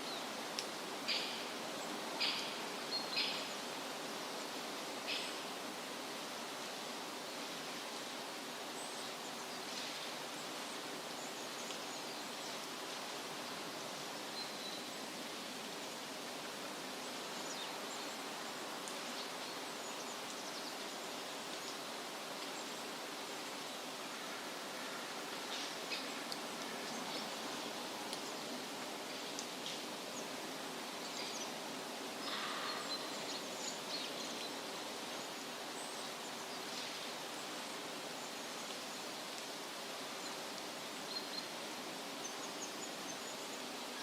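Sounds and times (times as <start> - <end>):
wind rustling leafy trees: 0.0 - 44.0.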